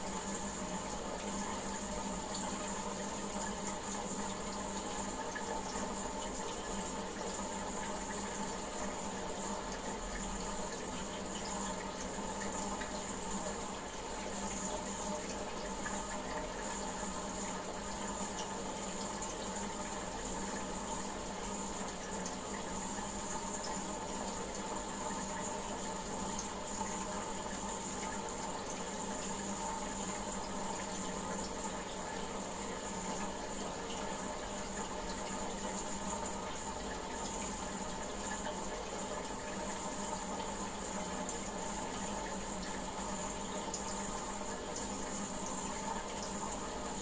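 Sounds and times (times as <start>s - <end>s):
aquarium water bubbling: 0.0s - 47.0s
faint steady hum: 0.0s - 47.0s.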